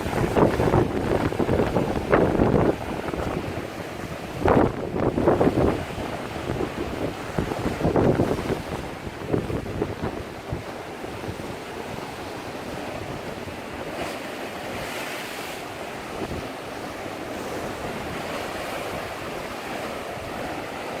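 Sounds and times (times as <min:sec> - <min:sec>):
sea waves breaking on rocks: 0:00.0 - 0:21.0
wind buffeting microphone: 0:00.0 - 0:21.0.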